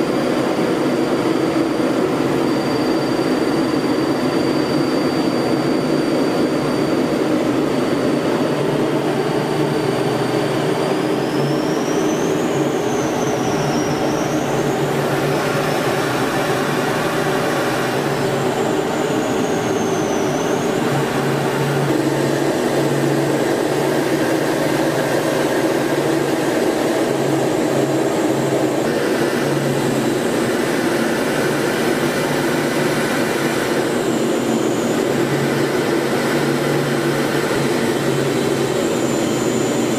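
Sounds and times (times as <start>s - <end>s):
high engine whine: 0.0s - 39.9s
jet engine drone: 0.0s - 39.9s
rushing air: 6.9s - 39.9s.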